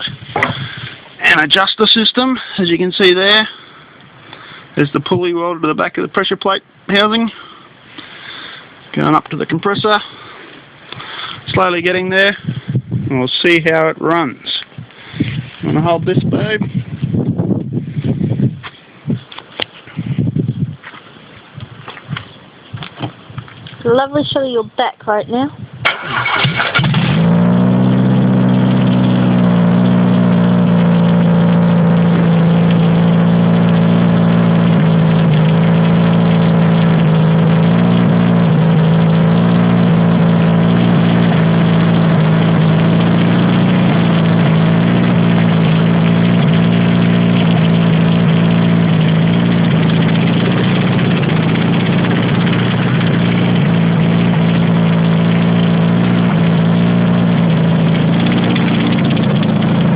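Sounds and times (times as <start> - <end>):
engine idling without muffler: 0.0 - 17.0, 26.0 - 59.9.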